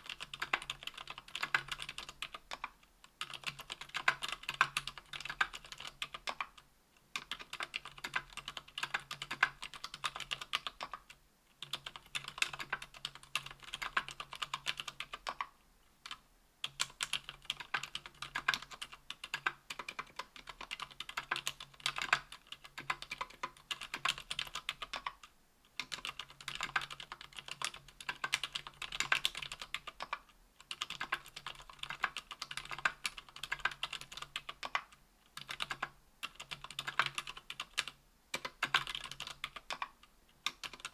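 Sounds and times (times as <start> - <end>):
keyboard typing: 0.0 - 6.6, 7.2 - 40.9.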